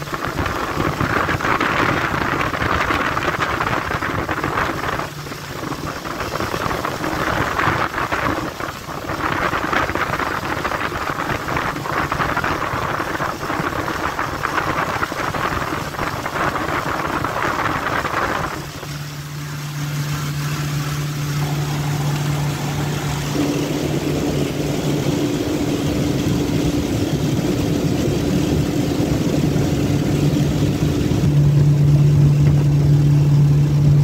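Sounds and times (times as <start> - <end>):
boat engine humming: 0.0 - 34.0
water rushing along hull: 0.0 - 34.0
wind buffeting microphone: 0.0 - 34.0.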